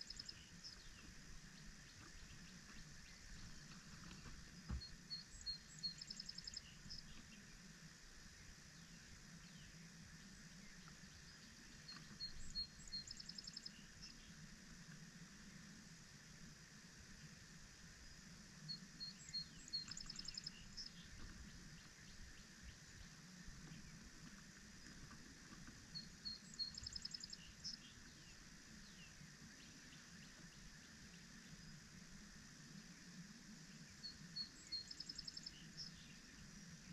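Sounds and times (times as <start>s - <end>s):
songbird singing trill: 0.0s - 7.7s, 8.7s - 14.4s, 18.6s - 31.9s, 33.6s - 36.9s
faint outdoor background: 0.0s - 36.9s.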